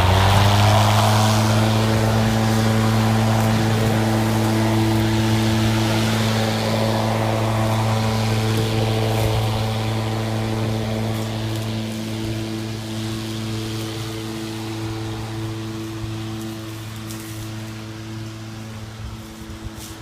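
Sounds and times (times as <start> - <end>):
lawn mower cutting grass: 0.0 - 20.0.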